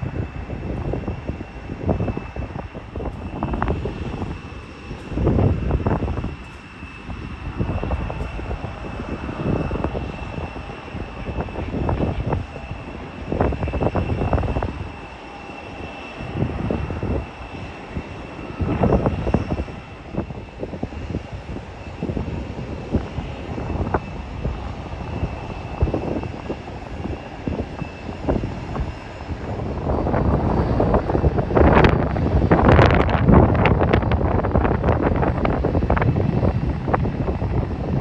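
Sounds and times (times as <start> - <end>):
jet engines whining: 0.0 - 38.0
wind buffeting microphone: 0.0 - 38.0.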